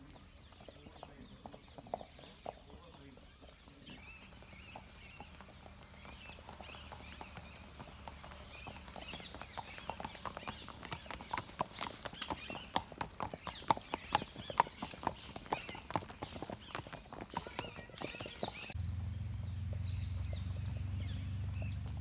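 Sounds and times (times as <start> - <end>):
horse hooves clip-clopping on dirt: 0.0 - 22.0.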